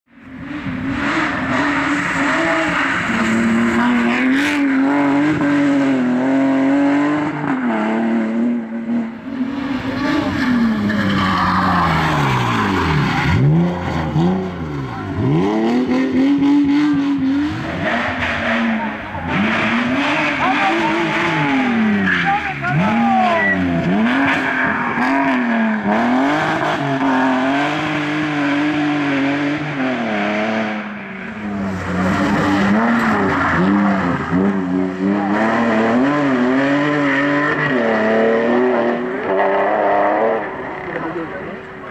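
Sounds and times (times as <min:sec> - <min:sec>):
rally car engine revving: 0:00.1 - 0:41.9.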